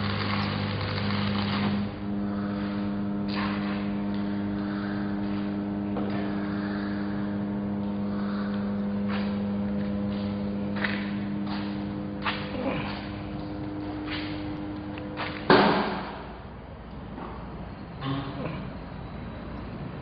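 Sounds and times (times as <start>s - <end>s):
welding machine humming: 0.0s - 20.0s.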